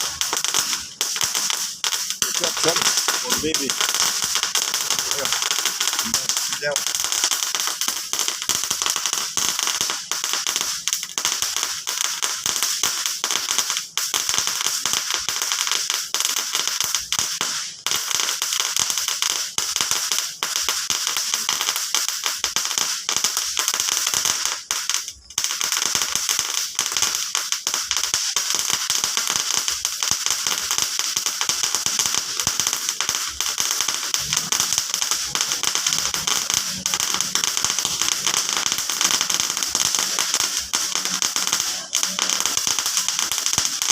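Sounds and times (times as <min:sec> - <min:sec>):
firecrackers crackling and popping: 0:00.0 - 0:43.9.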